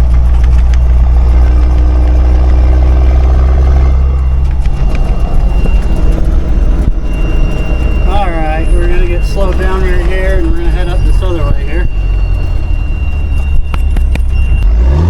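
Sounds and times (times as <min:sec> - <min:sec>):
faint high whine: 0:00.0 - 0:14.7
truck diesel engine drone: 0:00.0 - 0:15.0.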